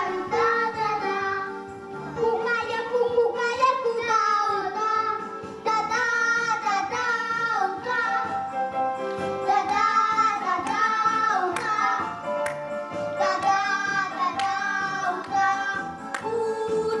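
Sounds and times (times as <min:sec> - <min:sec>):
child singing into a microphone: 0:00.0 - 0:01.6, 0:02.2 - 0:08.4, 0:09.4 - 0:12.1, 0:13.2 - 0:17.0.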